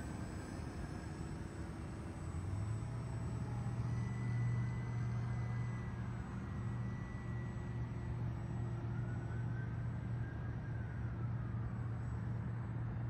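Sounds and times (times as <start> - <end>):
model plane propeller drone: 0.0 - 13.0
thin motor whine: 0.0 - 13.0.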